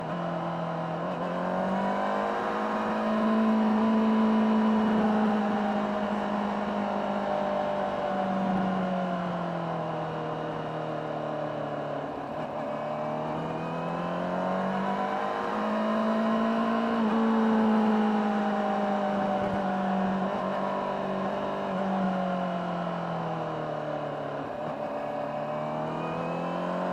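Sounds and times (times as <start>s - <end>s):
motorcycle engine while riding: 0.0s - 26.9s
wind and road noise: 0.0s - 26.9s.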